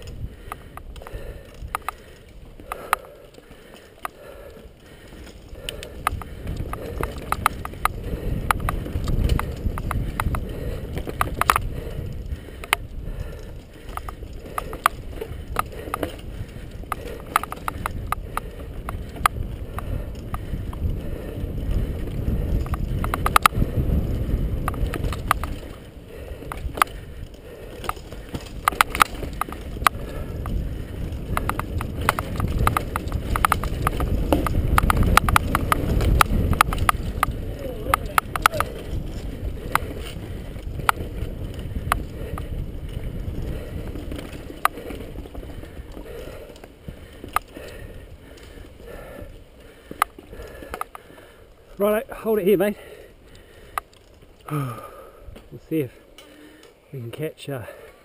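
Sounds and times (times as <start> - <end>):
bike rattling clicks and knocks: 0.0 - 58.0
wind and tyre rumble: 0.0 - 58.0.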